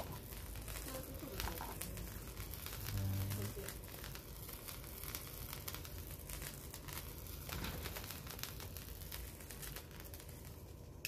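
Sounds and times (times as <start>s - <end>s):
spray firework crackling and fizzing: 0.0s - 11.0s.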